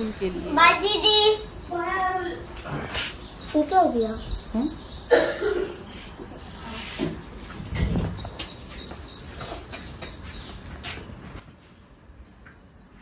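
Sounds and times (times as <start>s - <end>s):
small bird chirping: 0.0s - 11.2s.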